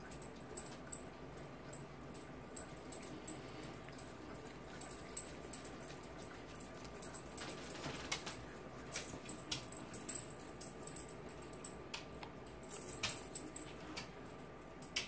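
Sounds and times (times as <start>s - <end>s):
light clicks and taps: 1.7s - 15.0s.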